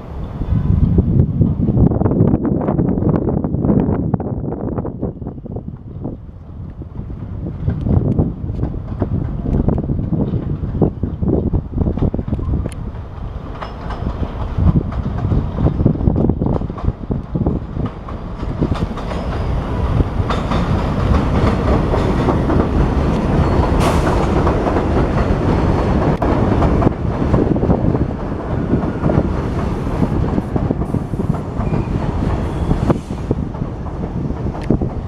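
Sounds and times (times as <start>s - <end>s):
subway train wheels clacking: 4.9s - 35.0s.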